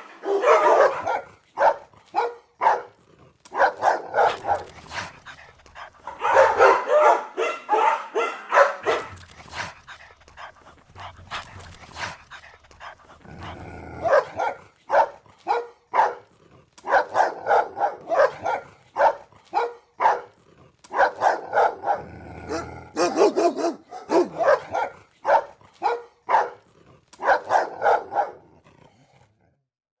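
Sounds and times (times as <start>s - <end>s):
dog growling: 0.0s - 19.6s, 20.3s - 29.7s
dogs barking: 0.0s - 28.6s.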